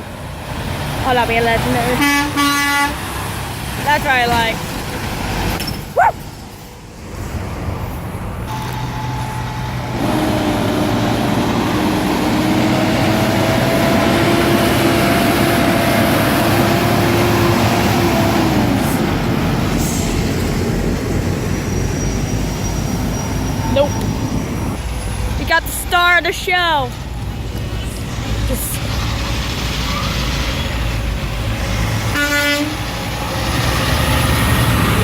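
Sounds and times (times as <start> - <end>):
heavy truck traffic passing: 0.0 - 35.0.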